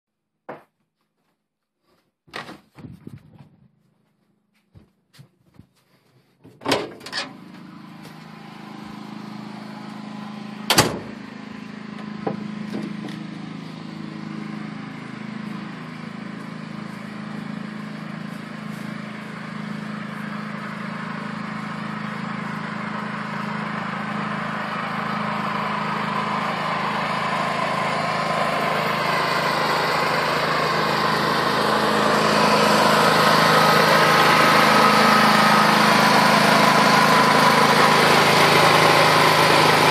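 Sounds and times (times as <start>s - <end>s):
petrol generator running: 3.7s - 39.9s.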